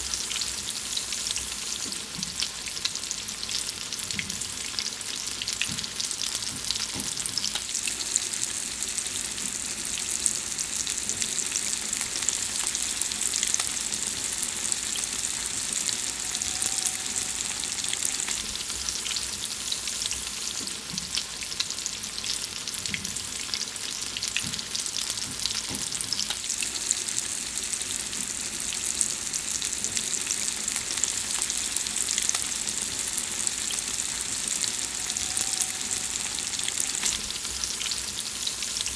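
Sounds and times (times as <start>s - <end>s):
food sizzling in hot fat: 0.0s - 38.9s.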